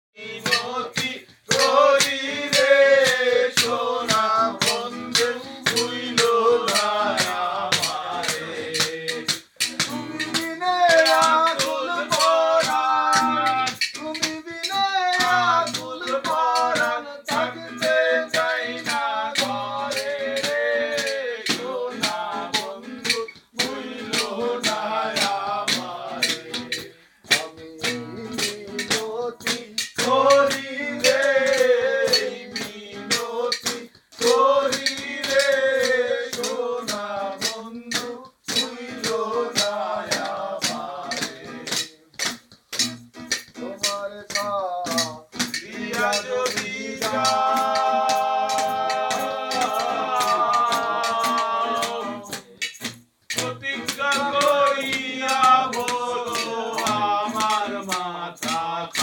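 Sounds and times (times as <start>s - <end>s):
men singing together: 0.2s - 42.4s, 43.5s - 59.0s
acoustic guitar: 0.2s - 59.0s
steel plate tapped as percussion: 0.4s - 59.0s.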